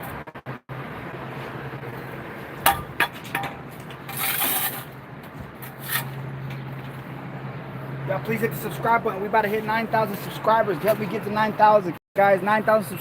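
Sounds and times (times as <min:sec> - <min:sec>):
steady low hum: 0:00.4 - 0:11.6.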